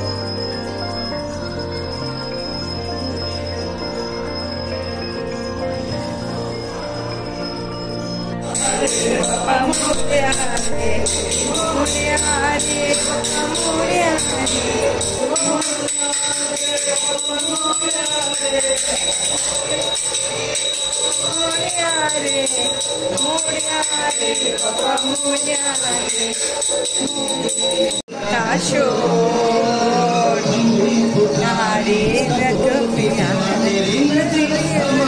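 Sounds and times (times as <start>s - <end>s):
instrumental accompaniment: 0.0s - 35.0s
person singing: 6.0s - 35.0s.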